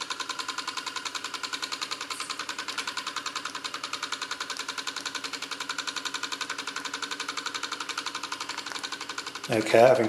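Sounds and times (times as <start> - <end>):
toy steam engine chuffing: 0.0 - 10.0.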